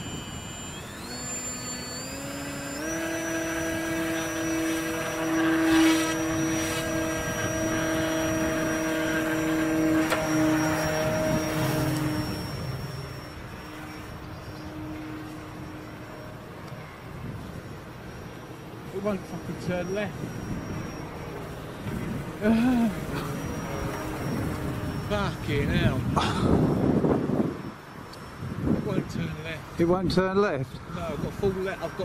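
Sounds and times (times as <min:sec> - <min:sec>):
model plane electric motor whining: 0:00.0 - 0:29.9, 0:30.8 - 0:32.0.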